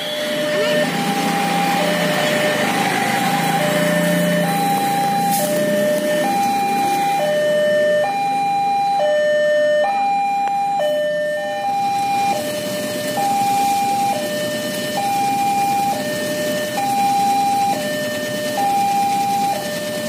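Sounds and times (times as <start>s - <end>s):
level-crossing alarm two-tone: 0.0s - 20.0s.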